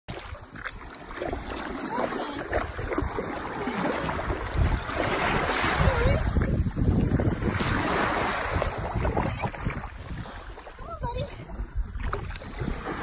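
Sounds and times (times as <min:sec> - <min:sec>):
surf washing over sand: 0:00.1 - 0:13.0
wind buffeting microphone: 0:01.2 - 0:13.0.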